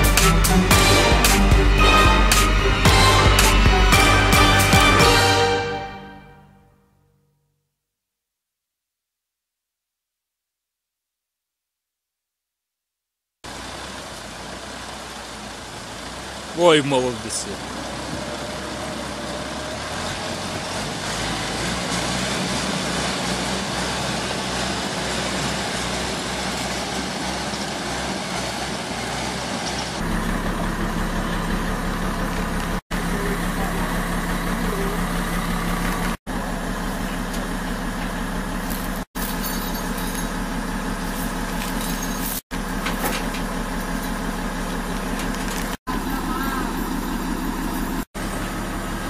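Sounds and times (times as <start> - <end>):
heavy diesel engine running: 0.0 - 6.1, 13.5 - 49.0.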